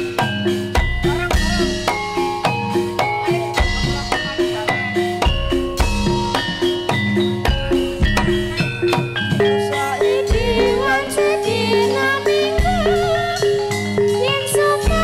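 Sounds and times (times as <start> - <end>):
gong and metallophone notes: 0.0 - 15.0
hand drums: 0.0 - 15.0
high wavering melody: 0.0 - 15.0.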